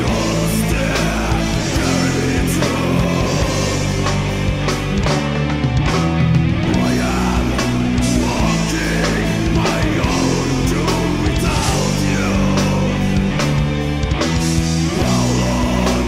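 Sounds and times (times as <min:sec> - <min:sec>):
doom metal music: 0:00.0 - 0:16.0.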